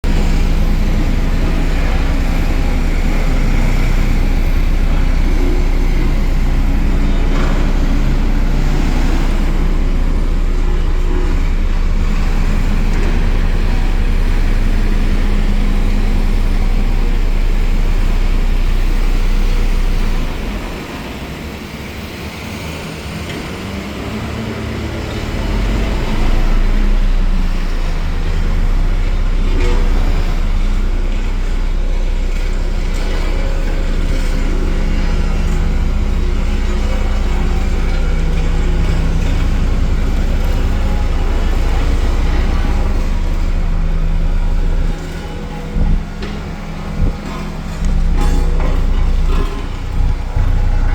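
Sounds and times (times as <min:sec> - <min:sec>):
soil compactor engine humming: 0:00.0 - 0:50.9.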